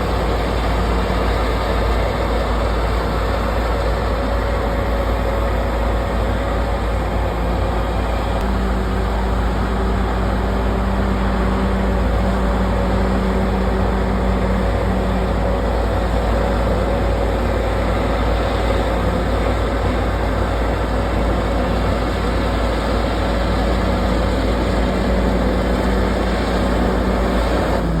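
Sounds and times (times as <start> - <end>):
bulldozer diesel engine: 0.0 - 28.0
steady whine: 0.0 - 28.0.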